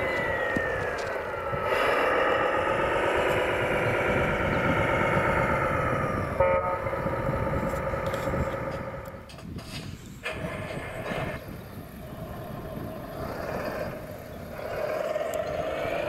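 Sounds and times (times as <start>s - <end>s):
electric motors whining: 0.0s - 9.4s, 10.2s - 16.0s.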